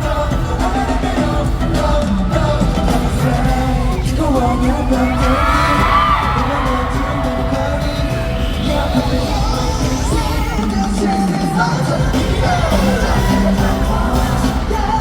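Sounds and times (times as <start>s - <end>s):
person singing: 0.0s - 15.0s
pop song through loudspeakers: 0.0s - 15.0s.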